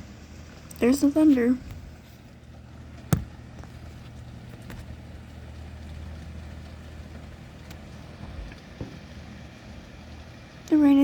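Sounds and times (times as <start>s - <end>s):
rain hiss: 0.0s - 11.0s.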